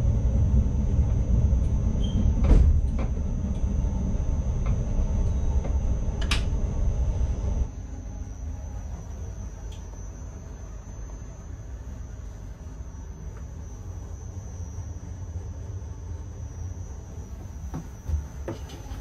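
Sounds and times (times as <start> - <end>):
train running rumble: 0.0 - 19.0
high-pitched whine: 3.2 - 19.0.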